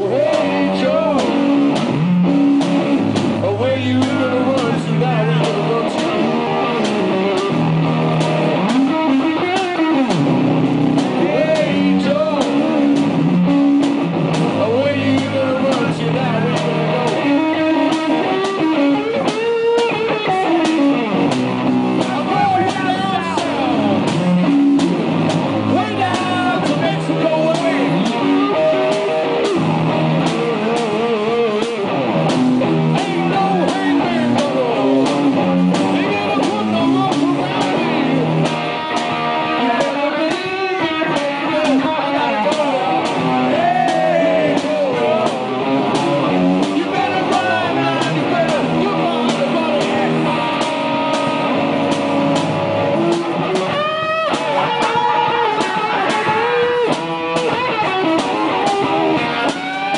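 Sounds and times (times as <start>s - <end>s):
bass drum and cymbal beat: 0.0s - 59.9s
electric guitar with bent notes: 0.0s - 59.9s.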